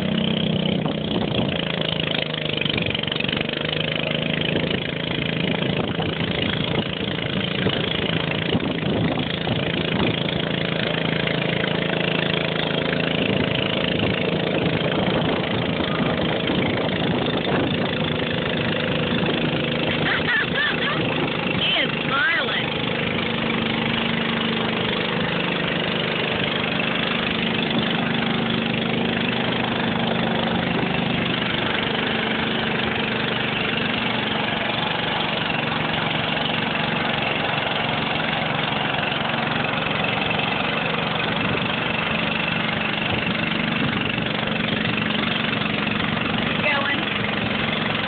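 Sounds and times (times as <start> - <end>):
tractor engine running under load: 0.0 - 48.0.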